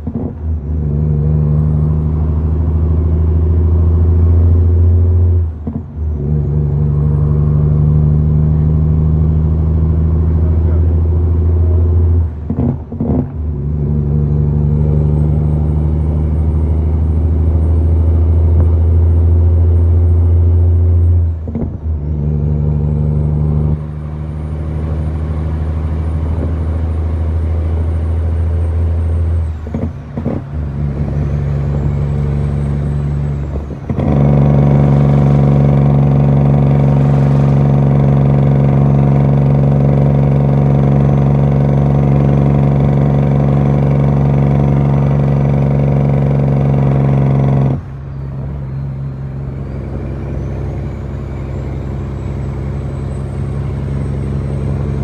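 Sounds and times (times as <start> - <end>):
truck diesel engine pulling: 0.0 - 55.0.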